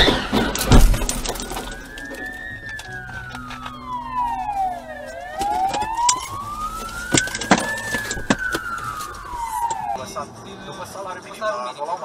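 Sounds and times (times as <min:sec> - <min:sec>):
emergency siren wailing: 0:00.0 - 0:10.4.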